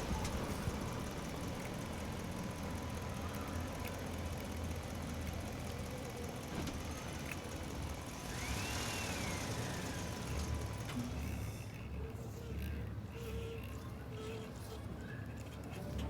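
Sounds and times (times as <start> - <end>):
engine idling rumble: 0.0 - 13.1.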